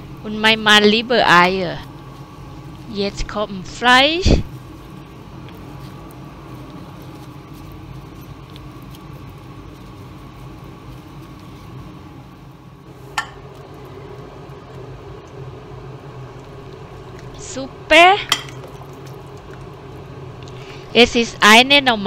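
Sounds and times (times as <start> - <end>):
low mechanical motor hum: 0.0 - 22.0.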